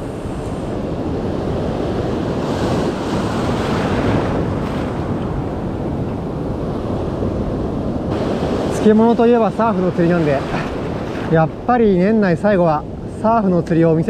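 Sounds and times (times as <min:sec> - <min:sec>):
surf breaking on beach: 0:00.0 - 0:13.2
wind on microphone: 0:00.0 - 0:14.0.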